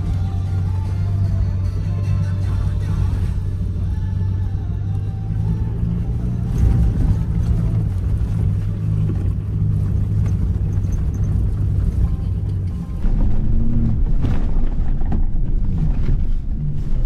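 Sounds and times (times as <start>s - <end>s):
truck engine and tyres droning: 0.0s - 17.0s.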